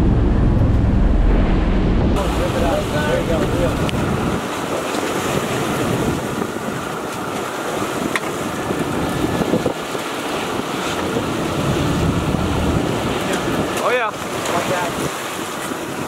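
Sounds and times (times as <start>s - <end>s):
wind blowing across microphone: 0.0s - 16.0s
waves washing against boat hull: 2.2s - 16.0s.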